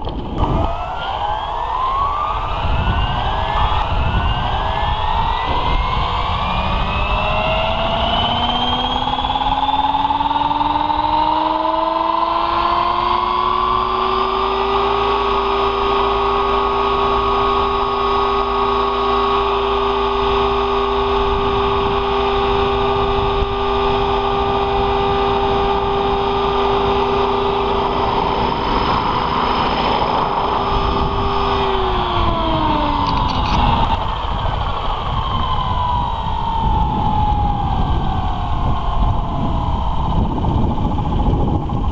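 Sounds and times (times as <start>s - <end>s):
model helicopter rotor whine: 0.0s - 41.9s.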